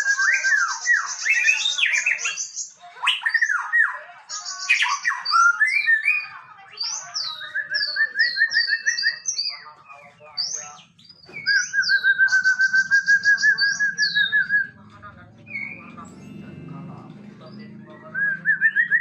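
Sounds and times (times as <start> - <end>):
bird singing whistled song: 0.0 - 14.8, 15.5 - 16.0, 17.5 - 19.0.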